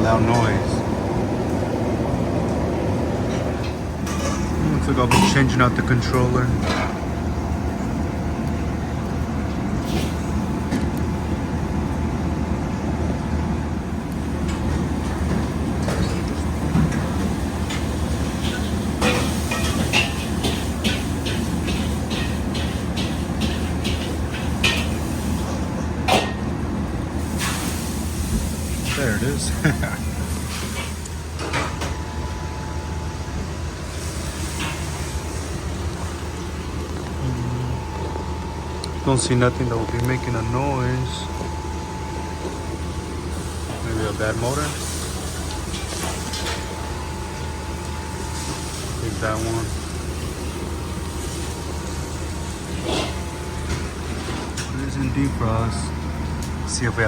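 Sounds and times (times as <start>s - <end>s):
freezer running rumble: 0.0s - 57.0s.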